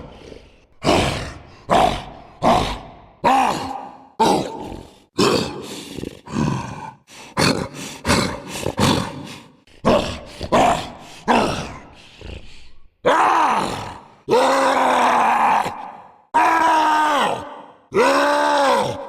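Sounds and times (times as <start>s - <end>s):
person roaring and grunting: 0.0s - 19.0s.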